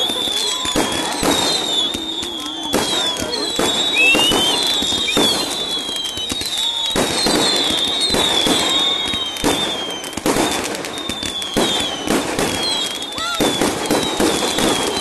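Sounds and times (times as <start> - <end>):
fireworks bangs and crackles: 0.0 - 15.0
whistling rockets: 0.0 - 15.0.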